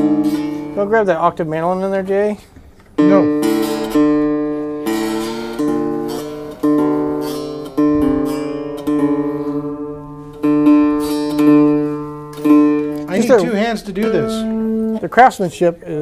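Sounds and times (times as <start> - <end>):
mandolin strummed on open strings: 0.0 - 16.0.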